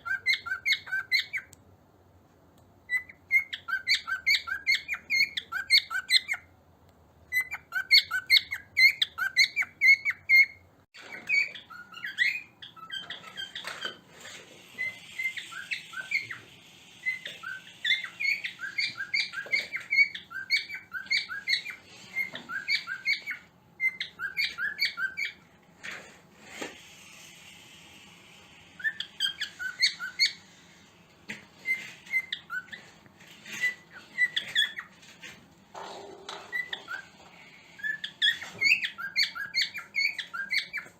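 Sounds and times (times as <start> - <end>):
cockatiel chirping: 0.0 - 1.6, 2.8 - 6.5, 7.2 - 25.5, 28.7 - 35.4, 36.3 - 40.9.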